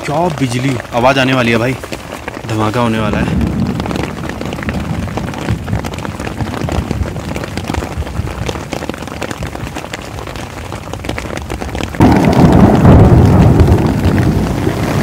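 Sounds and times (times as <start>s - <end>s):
heavy rain on a tent: 0.0s - 15.0s.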